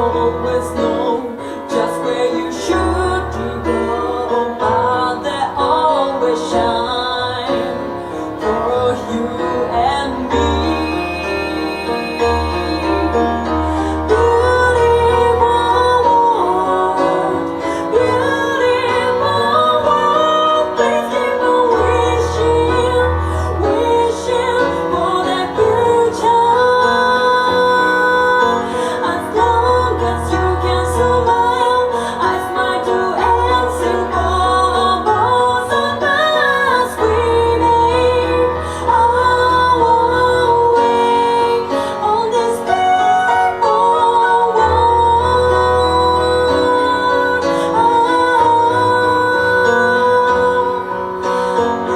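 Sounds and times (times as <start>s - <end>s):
band with bass and keyboard: 0.0s - 51.9s
woman singing: 0.0s - 51.9s.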